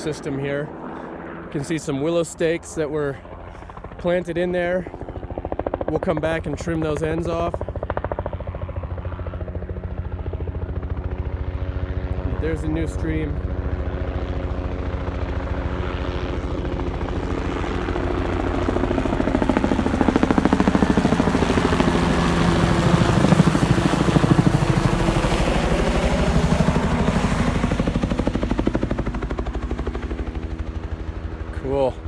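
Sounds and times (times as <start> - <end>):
helicopter rotor chop: 0.0 - 32.0.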